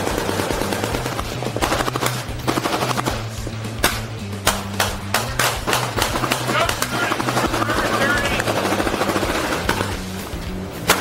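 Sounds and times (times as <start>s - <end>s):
machine-gun fire: 0.0s - 3.4s, 4.5s - 10.0s
background music: 0.0s - 11.0s.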